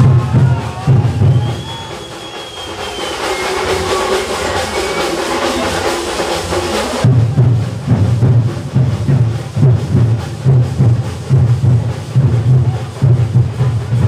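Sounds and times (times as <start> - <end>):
drum-heavy music: 0.0 - 14.0.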